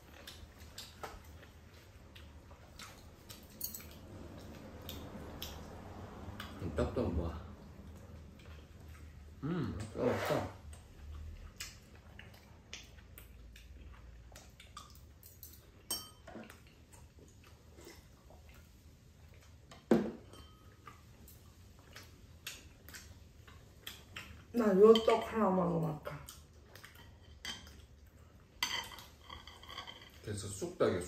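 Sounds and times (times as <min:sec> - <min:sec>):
chewing: 0:00.0 - 0:06.6, 0:07.6 - 0:10.0, 0:10.6 - 0:25.1, 0:26.0 - 0:30.3.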